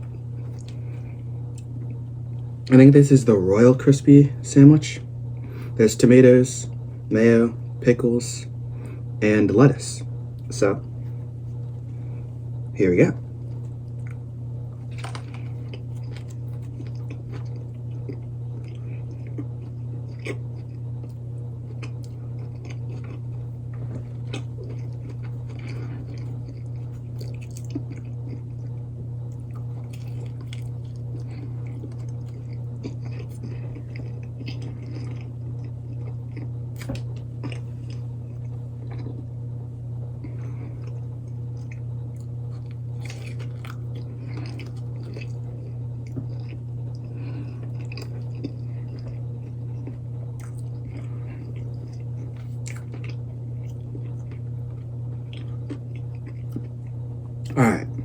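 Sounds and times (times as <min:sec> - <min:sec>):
chewing crispy food: 0:00.0 - 0:03.0, 0:09.8 - 0:58.0
steady low hum: 0:00.0 - 0:58.0.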